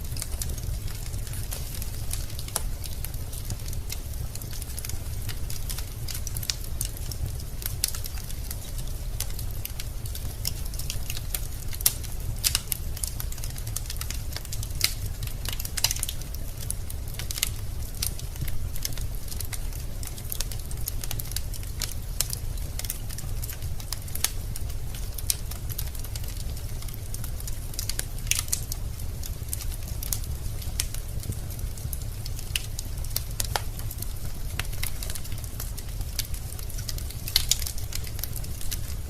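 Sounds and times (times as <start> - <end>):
logs crackling in fireplace: 0.0 - 39.0
low fire rumble: 0.0 - 39.0.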